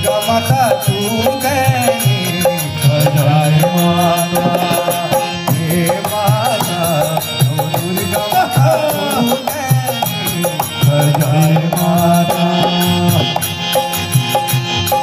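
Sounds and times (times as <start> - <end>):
harmonium melody: 0.0 - 15.0
steady rhythmic beat: 0.0 - 15.0.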